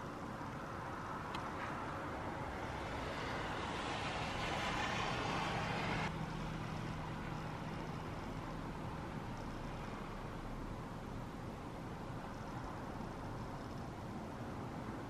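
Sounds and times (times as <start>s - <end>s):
distant road traffic: 0.0s - 15.0s
low steady hum: 0.0s - 15.0s.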